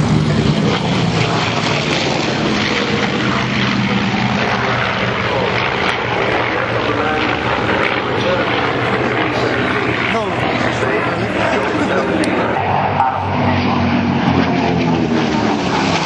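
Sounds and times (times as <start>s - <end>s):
airplane propeller engines droning: 0.0s - 16.0s.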